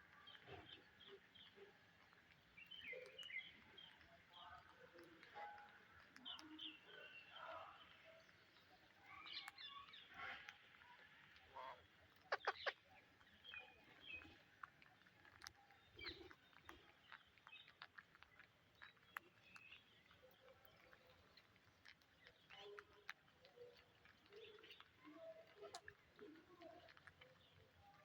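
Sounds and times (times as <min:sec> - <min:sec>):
parakeets chirping and clicking: 0:00.1 - 0:28.0.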